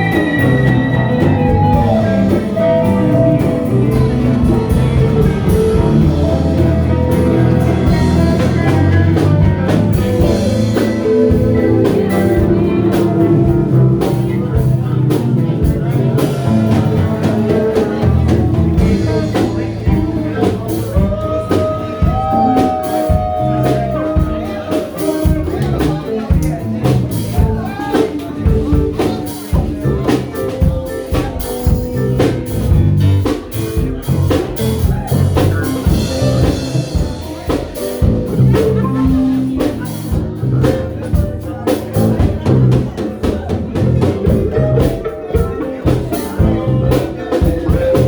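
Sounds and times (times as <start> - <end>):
live blues-rock band: 0.0 - 48.0.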